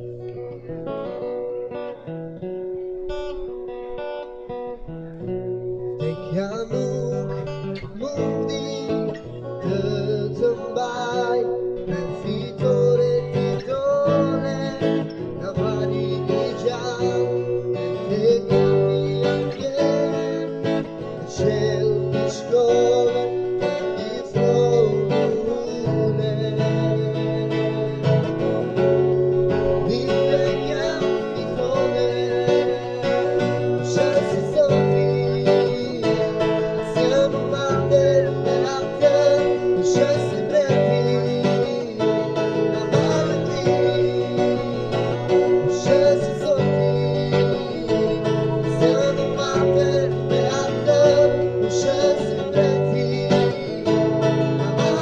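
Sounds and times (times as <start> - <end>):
acoustic guitar strumming: 0.0 - 55.0
man singing into a microphone: 5.8 - 55.0.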